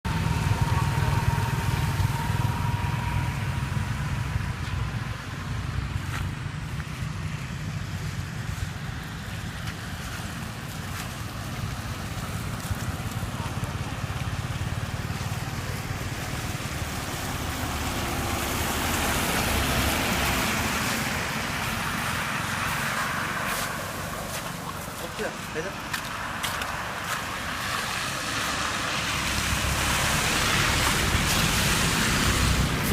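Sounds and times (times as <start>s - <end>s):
vehicle rumble on road: 0.0s - 32.9s.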